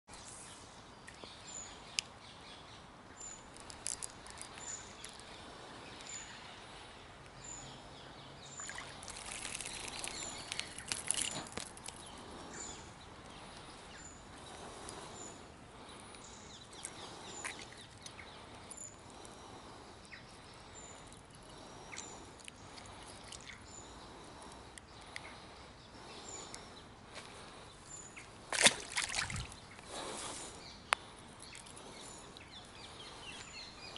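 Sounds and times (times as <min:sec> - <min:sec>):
outdoor background ambience: 0:00.0 - 0:33.9.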